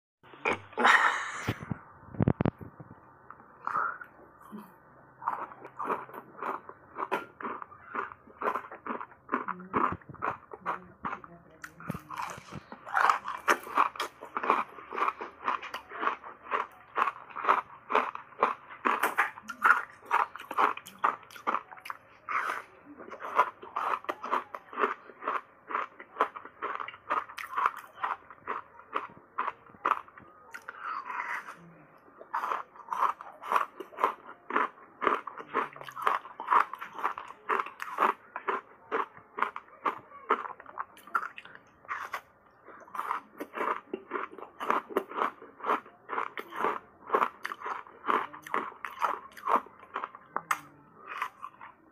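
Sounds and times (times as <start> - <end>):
crunching and chewing ice: 5.1 - 51.9.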